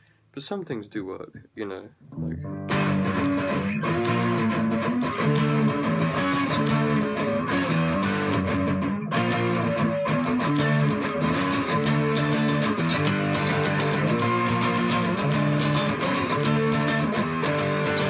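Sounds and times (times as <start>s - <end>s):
fuzz electric guitar strumming: 2.1s - 18.0s.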